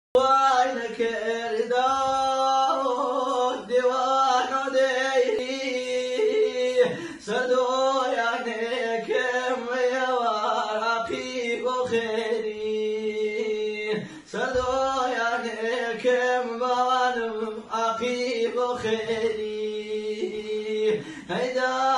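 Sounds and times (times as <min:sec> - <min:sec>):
person singing unaccompanied: 0:00.2 - 0:21.9.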